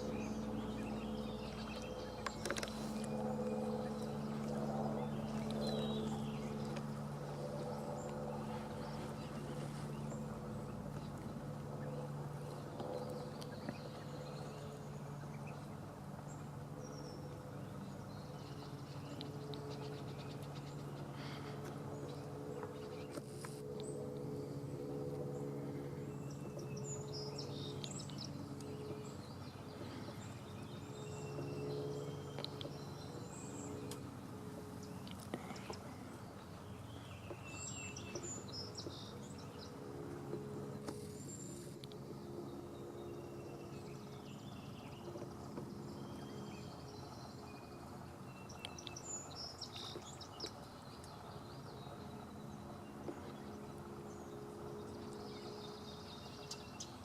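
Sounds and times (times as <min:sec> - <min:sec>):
birds chirping: 0:00.0 - 0:57.0
steady low hum: 0:00.0 - 0:57.0.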